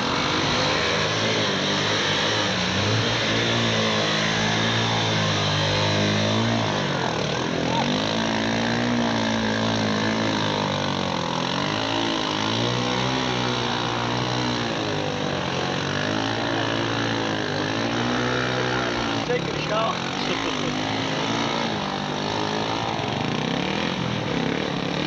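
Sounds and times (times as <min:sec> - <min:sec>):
atv engine revving: 0:00.0 - 0:25.0.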